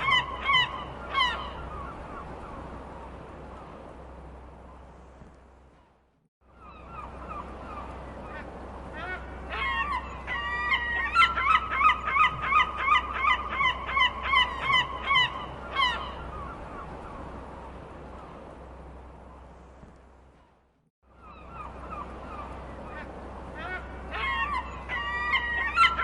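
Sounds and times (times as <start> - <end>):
seagulls calling: 0.0 - 4.9, 5.7 - 26.0.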